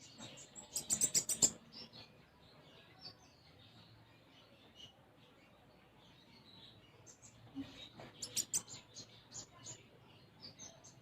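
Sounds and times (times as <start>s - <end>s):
sunbird singing: 0.0s - 11.0s.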